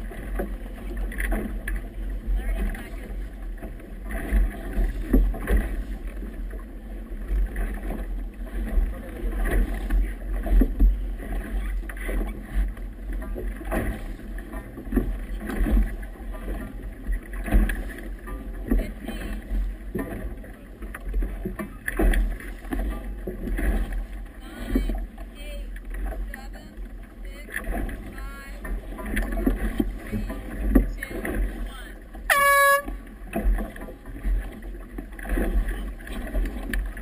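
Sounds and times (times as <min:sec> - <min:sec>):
waves hitting a boat hull: 0:00.0 - 0:37.0.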